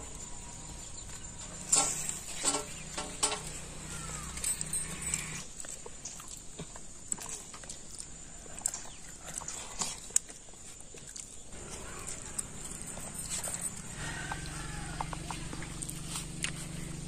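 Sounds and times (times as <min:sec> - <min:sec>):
puffed rice crunching in steel bowls: 0:00.0 - 0:17.0.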